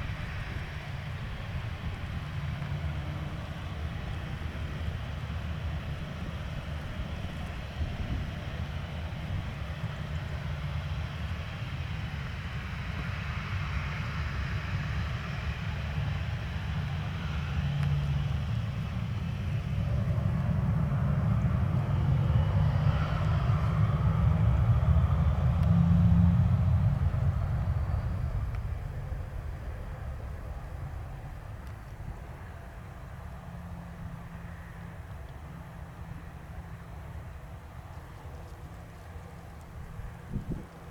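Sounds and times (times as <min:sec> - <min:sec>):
jet engines at taxi power: 0:00.0 - 0:40.9.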